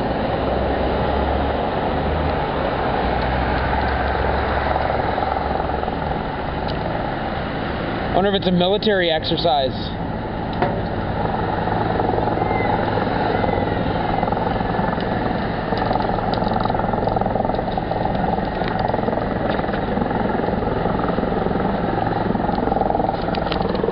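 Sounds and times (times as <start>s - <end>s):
helicopter rotor and engine drone: 0.0s - 23.9s.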